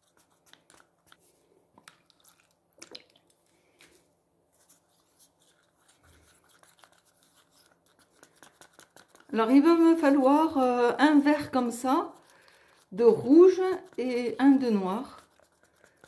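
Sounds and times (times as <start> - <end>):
stick stirring paint in cup: 0.0 - 3.4, 4.6 - 16.0.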